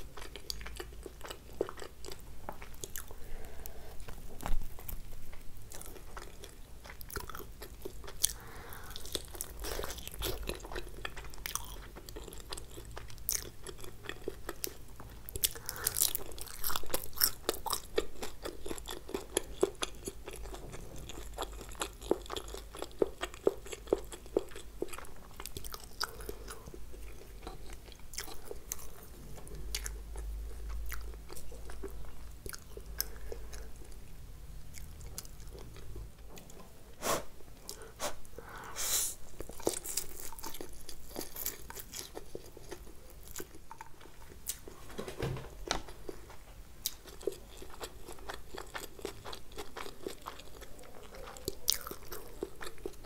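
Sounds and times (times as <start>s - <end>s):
person chewing crunchy food: 0.0s - 44.8s, 45.8s - 53.0s.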